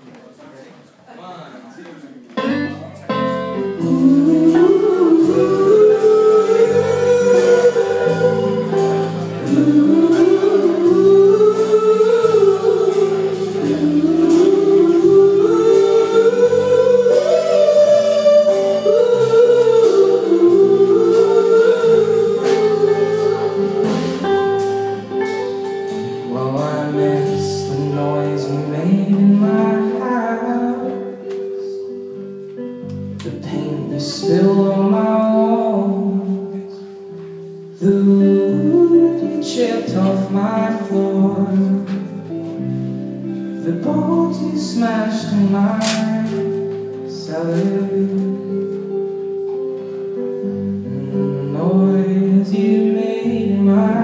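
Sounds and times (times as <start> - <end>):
live band playing slow song: 2.2 - 54.0.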